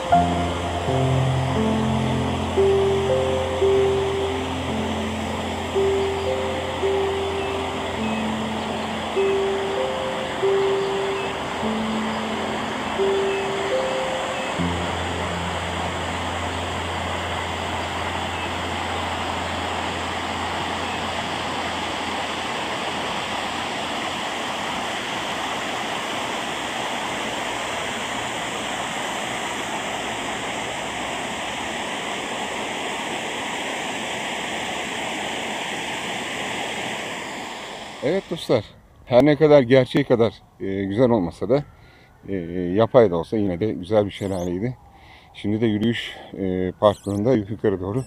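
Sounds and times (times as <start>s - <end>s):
waterfall rushing: 0.0s - 38.6s.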